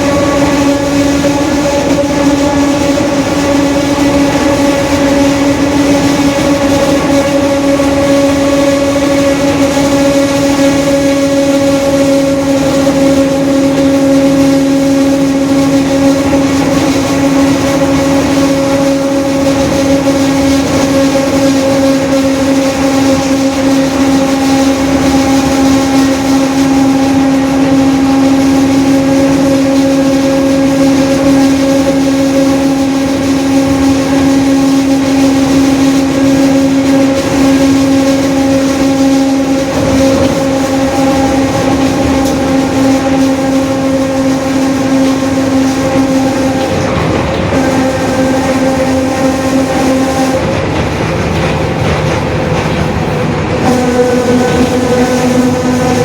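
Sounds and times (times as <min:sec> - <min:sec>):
bus differential whine: 0:00.0 - 0:56.0
bus engine: 0:00.0 - 0:56.0
road noise: 0:00.0 - 0:56.0.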